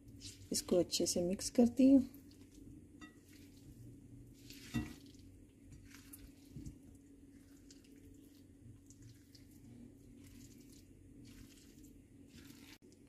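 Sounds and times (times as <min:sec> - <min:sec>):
utensil stirring potato salad: 0:00.0 - 0:13.0.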